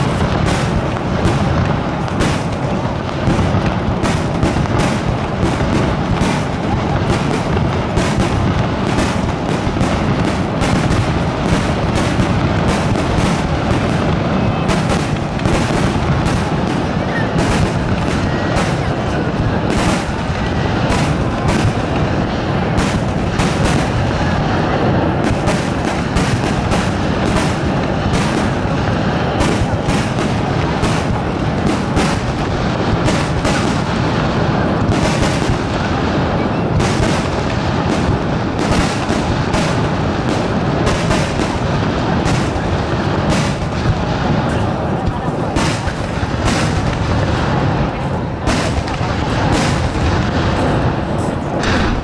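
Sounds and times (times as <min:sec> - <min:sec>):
continuous rumble: 0:00.0 - 0:52.0
fireworks bursting: 0:00.0 - 0:52.0.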